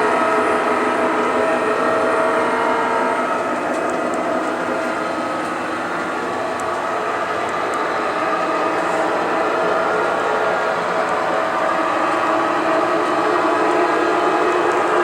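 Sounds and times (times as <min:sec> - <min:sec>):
engine-like drone: 0:00.0 - 0:15.0
model train rolling: 0:00.0 - 0:15.0.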